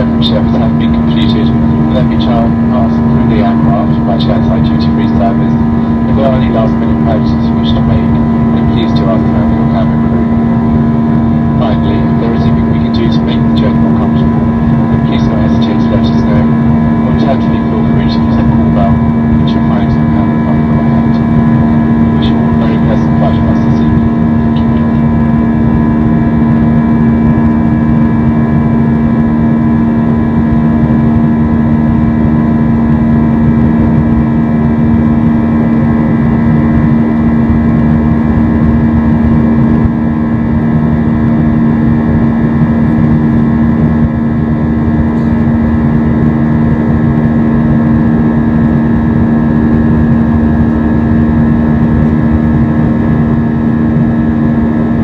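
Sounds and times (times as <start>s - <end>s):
aircraft cabin drone: 0.0s - 55.0s.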